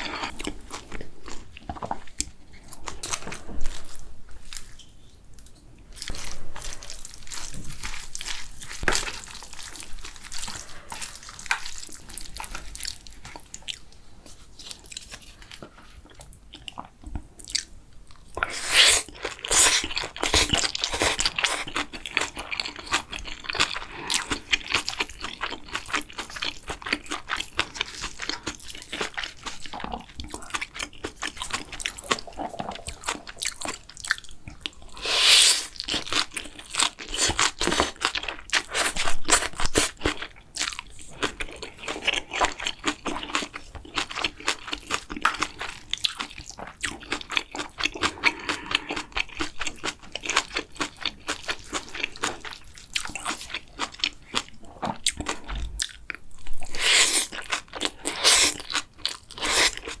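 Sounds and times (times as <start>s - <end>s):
crunchy chewing: 6.0s - 60.0s.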